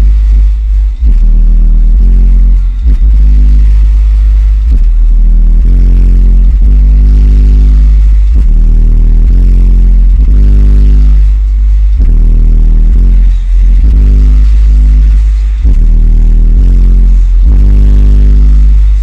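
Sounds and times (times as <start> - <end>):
loud bass-heavy music: 0.0 - 19.0.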